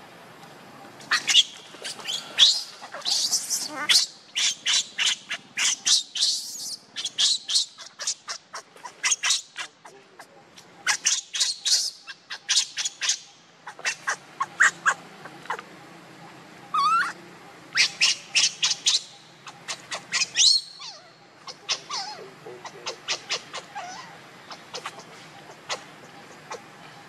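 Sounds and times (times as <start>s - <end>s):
baby monkey squealing: 1.1s - 15.6s, 16.7s - 26.7s.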